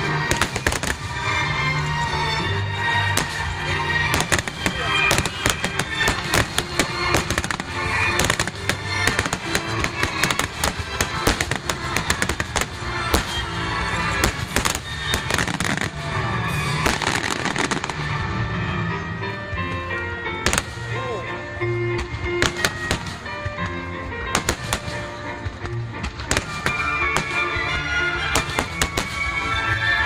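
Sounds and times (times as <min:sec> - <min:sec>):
fireworks bursting and crackling: 0:00.0 - 0:18.8, 0:19.5 - 0:21.2, 0:21.9 - 0:30.0
music playing: 0:00.0 - 0:30.0.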